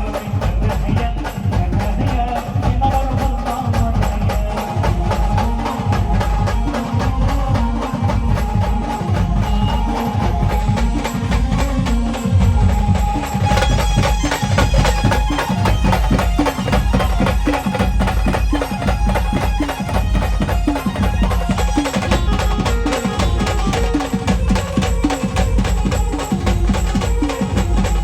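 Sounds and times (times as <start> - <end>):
band playing dance music: 0.0 - 28.0
driving drum beat: 0.0 - 28.0.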